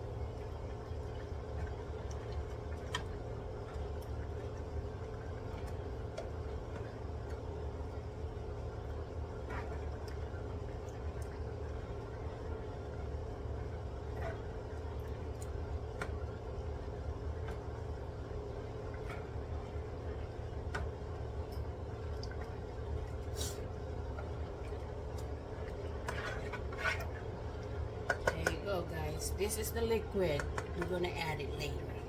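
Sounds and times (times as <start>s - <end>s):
low kitchen hum: 0.0s - 32.0s.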